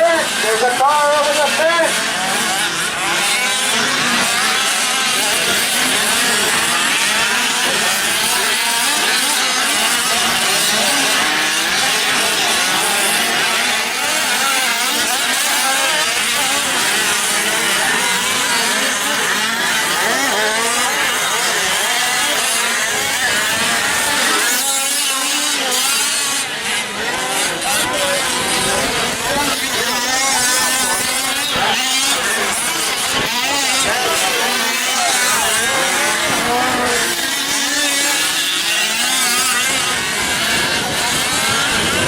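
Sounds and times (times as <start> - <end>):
small two-stroke engines buzzing: 0.0 - 42.0.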